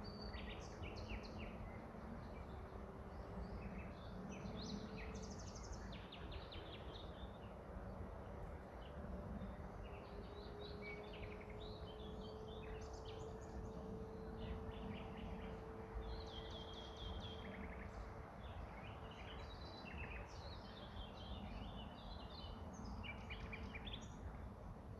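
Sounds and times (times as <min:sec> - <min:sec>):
small birds chirping: 0:00.0 - 0:24.5
faint hum: 0:00.0 - 0:24.9
low background rumble: 0:00.0 - 0:24.9.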